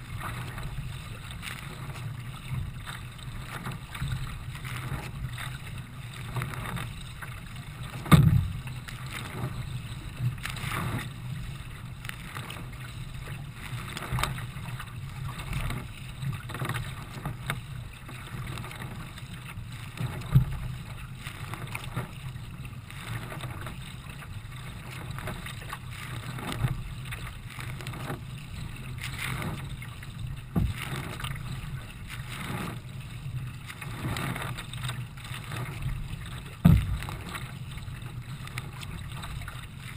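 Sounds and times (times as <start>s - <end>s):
paddle stroke splashes: 0.0s - 39.9s
water rushing and slapping: 0.0s - 39.9s.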